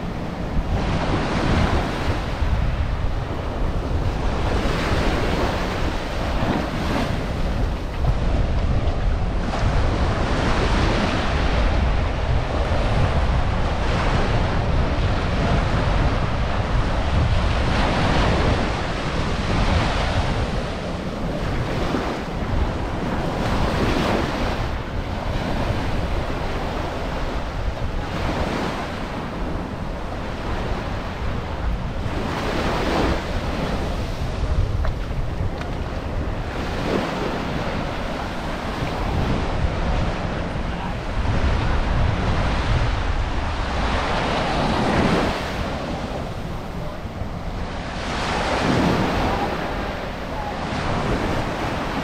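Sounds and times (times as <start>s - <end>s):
ocean surf breaking on beach: 0.0s - 52.0s
wind buffeting microphone: 0.0s - 52.0s.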